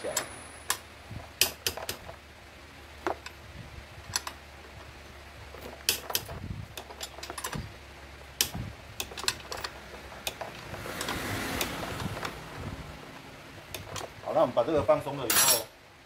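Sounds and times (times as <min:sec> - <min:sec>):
low fan hum: 0:00.0 - 0:16.0.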